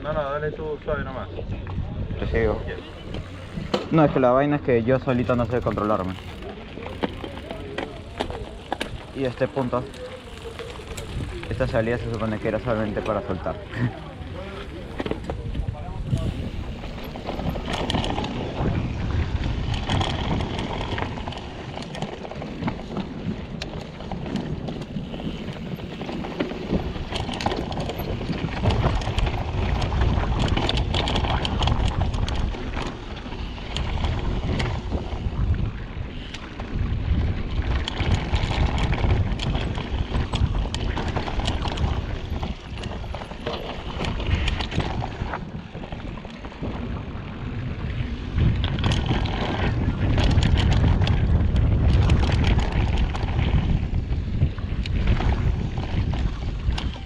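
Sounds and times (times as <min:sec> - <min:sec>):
bike rattling over trail: 0:00.0 - 0:57.0
wind buffeting microphone: 0:00.0 - 0:57.0.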